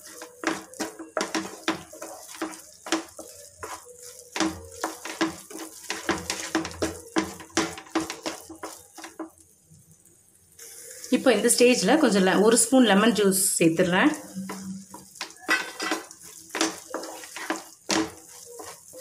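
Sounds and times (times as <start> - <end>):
wooden spatula scraping a pan: 0.0 - 9.5, 10.6 - 19.0.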